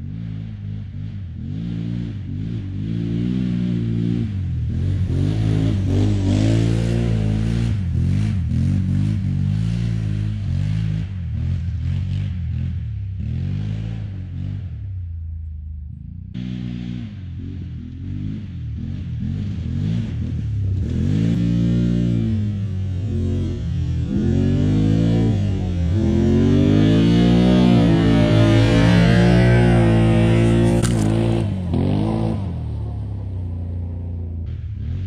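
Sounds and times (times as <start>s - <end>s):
quad bike engine revving: 0.0s - 14.8s, 16.4s - 35.0s.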